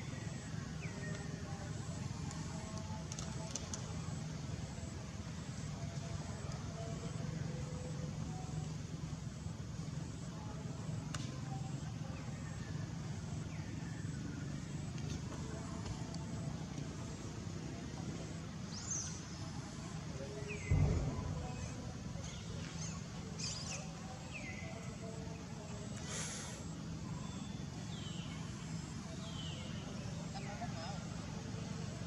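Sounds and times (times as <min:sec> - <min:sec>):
low outdoor rumble: 0:00.0 - 0:32.0.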